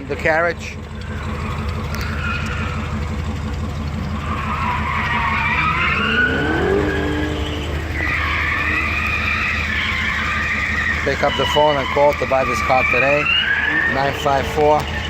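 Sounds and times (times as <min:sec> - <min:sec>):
car engine running: 0:00.0 - 0:15.0
high wavering squeal: 0:01.0 - 0:15.0
rising whine: 0:01.0 - 0:15.0.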